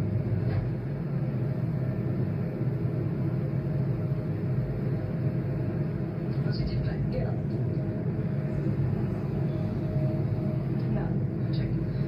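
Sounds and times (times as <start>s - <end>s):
jet airliner taking off: 0.0s - 12.0s.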